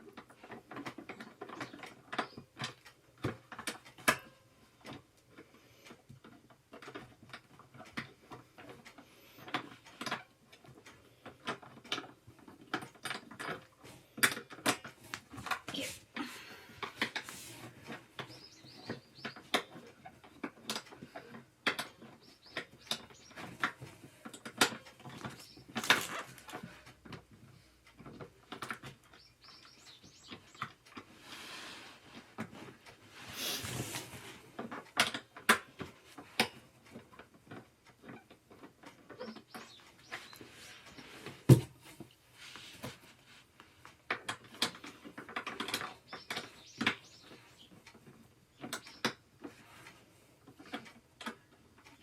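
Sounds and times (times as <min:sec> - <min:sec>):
chair parts clicking and knocking: 0:00.0 - 0:31.4, 0:32.0 - 0:42.2, 0:42.8 - 0:52.0.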